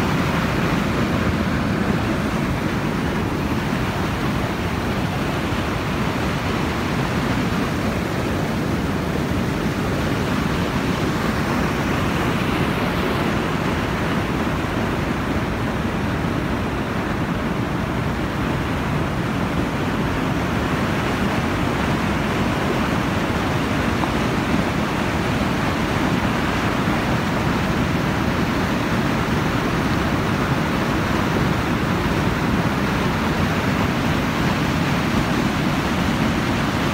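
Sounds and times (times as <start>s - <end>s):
floodwater rushing through gates: 0.0s - 36.9s.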